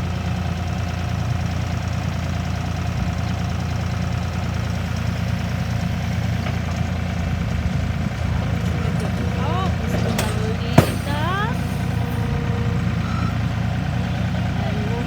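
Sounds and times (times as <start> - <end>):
construction machine engine droning: 0.0 - 15.0.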